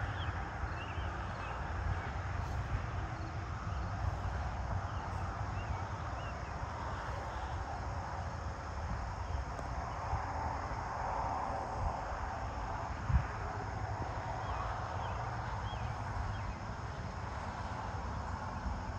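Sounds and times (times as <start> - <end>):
crickets and insects chorus: 0.0 - 18.9.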